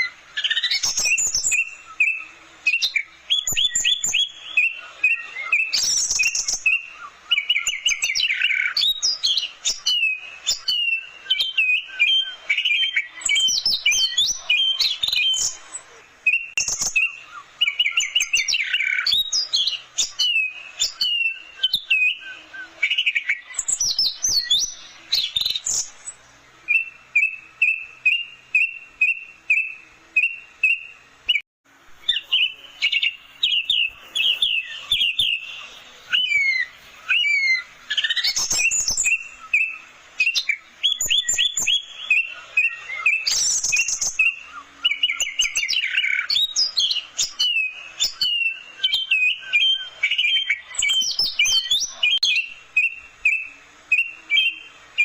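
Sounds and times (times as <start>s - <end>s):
thrush singing whistled phrases: 0.0s - 31.4s, 32.0s - 55.0s.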